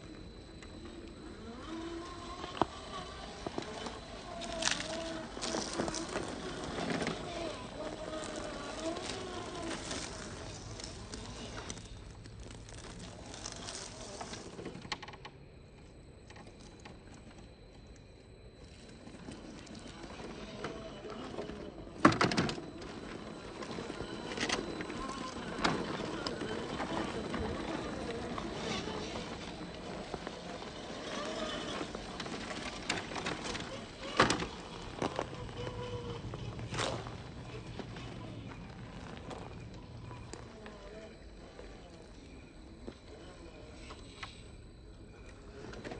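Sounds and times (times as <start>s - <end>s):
toy car tyres crunching pebbles: 0.0s - 15.3s, 16.2s - 45.9s
electric motor whine: 0.0s - 45.9s.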